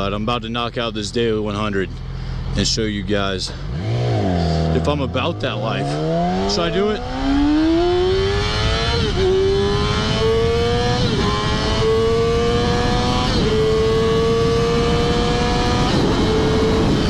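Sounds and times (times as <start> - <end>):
motorcycle engine accelerating: 1.5 - 17.0.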